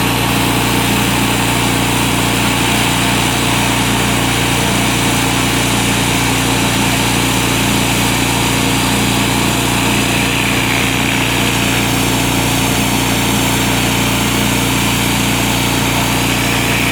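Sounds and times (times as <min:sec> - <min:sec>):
pressure washer engine running: 0:00.0 - 0:16.9
water spraying onto concrete: 0:00.0 - 0:16.9.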